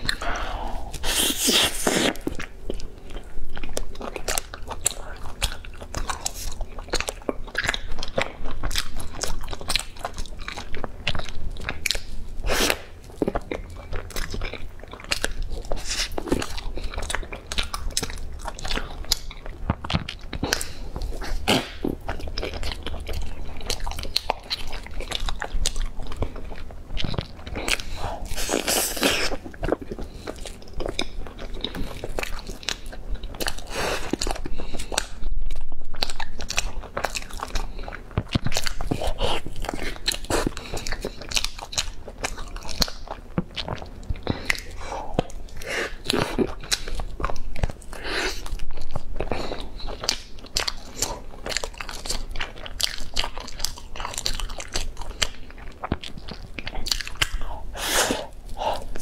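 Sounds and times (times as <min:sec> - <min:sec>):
person chewing pastry: 0:00.0 - 0:59.0.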